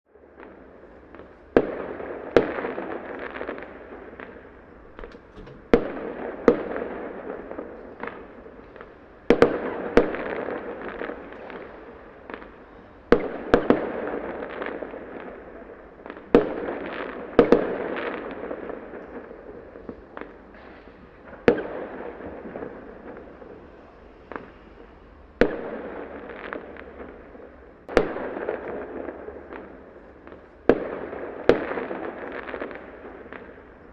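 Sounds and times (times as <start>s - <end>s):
firework crackle and hiss: 0.2s - 33.9s
firework bangs: 0.3s - 33.9s.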